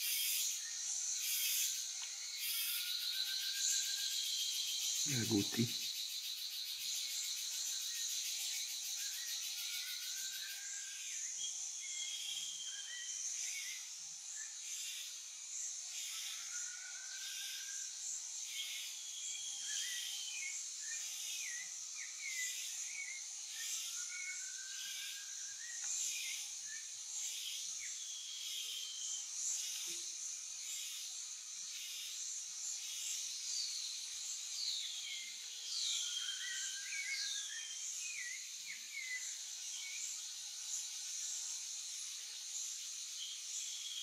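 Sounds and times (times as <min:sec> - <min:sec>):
pulsing insect drone: 0:00.0 - 0:44.0.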